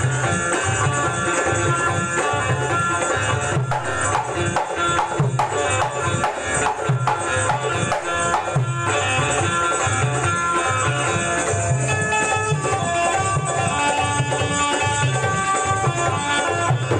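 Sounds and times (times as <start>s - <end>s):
banjo melody: 0.0s - 16.9s
hand-played barrel drum: 0.0s - 16.9s
tabla: 0.0s - 16.9s.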